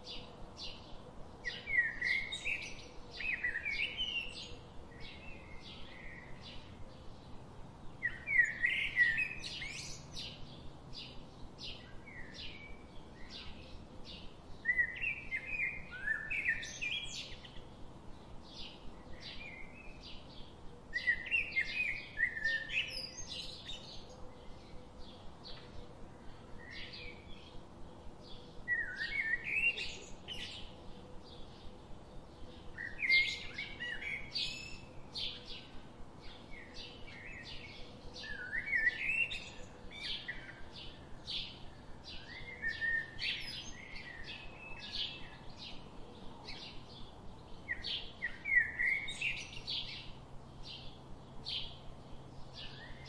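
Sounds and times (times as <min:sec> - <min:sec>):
birds singing: 0:00.0 - 0:53.0.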